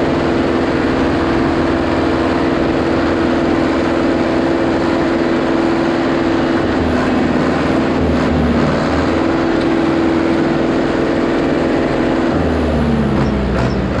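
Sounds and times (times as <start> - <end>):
tractor engine under heavy load: 0.0 - 14.0.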